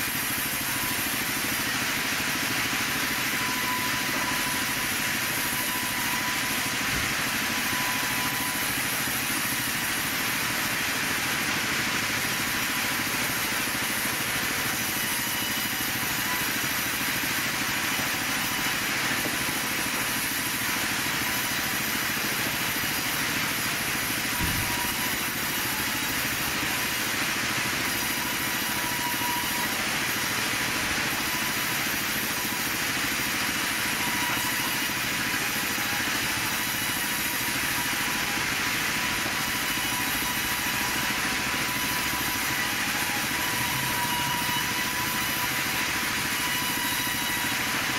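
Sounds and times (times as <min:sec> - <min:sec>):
band saw running: 0:00.0 - 0:47.9.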